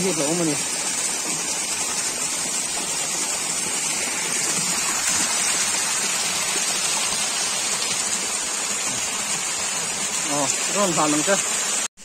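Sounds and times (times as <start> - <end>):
stream water flowing: 0.0 - 11.9.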